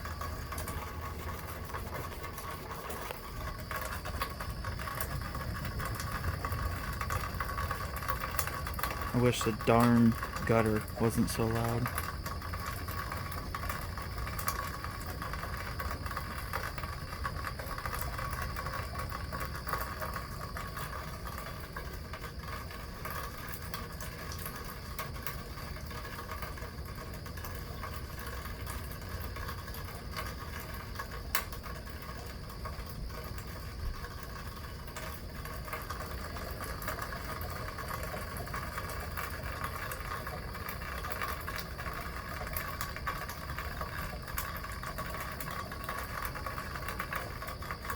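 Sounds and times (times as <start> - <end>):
gutter water splashing: 0.0 - 47.9
heavy rain: 0.0 - 47.9.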